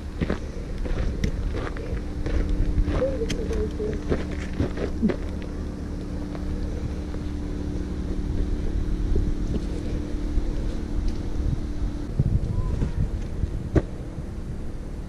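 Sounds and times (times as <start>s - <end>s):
steady low hum: 0.0s - 15.0s
wind rumbling on microphone: 0.0s - 15.0s.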